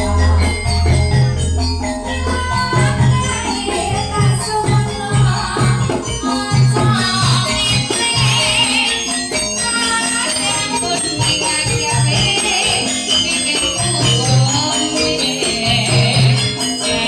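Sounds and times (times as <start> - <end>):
high wavering melody: 0.0 - 17.0
jingling percussion: 0.0 - 17.0.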